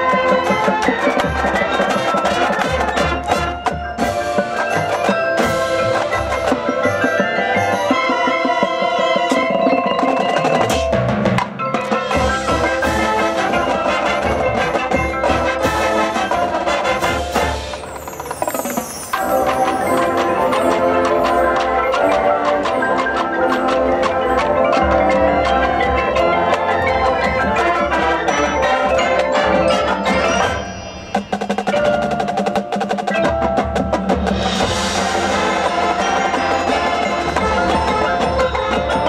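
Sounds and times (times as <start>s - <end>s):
drum strokes: 0.0s - 39.0s
mallet percussion: 0.0s - 39.0s
marching band playing: 0.0s - 39.0s.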